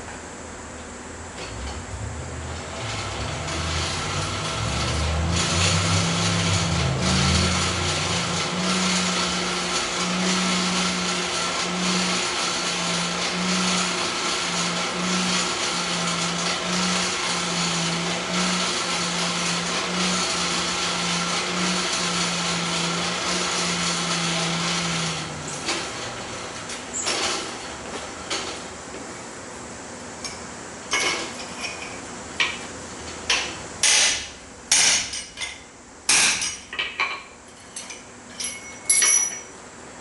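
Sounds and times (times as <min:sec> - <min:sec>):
shop machine motor running: 0:01.1 - 0:36.6.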